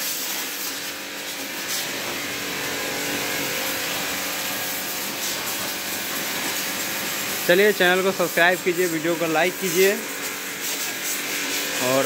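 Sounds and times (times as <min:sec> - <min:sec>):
high-pressure water jet hissing: 0:00.0 - 0:12.0
pressure washer motor humming: 0:00.0 - 0:12.0.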